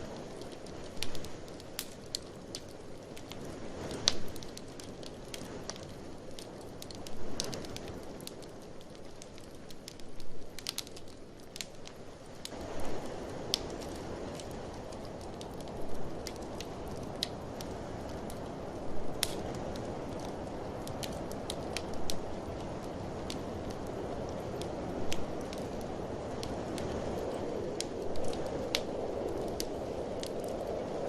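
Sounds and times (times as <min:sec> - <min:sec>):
blizzard wind rushing: 0:00.0 - 0:31.0
wood fire crackling and popping: 0:00.0 - 0:31.0.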